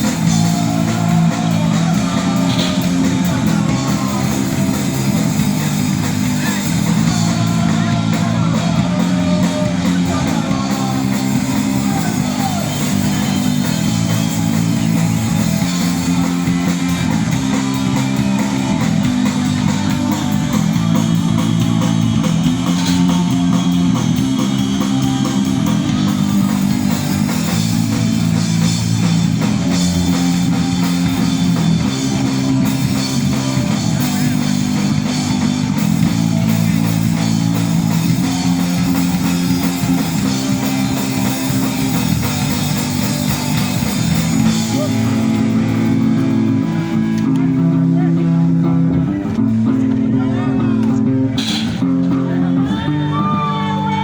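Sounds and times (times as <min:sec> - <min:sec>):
rock music: 0:00.0 - 0:54.0.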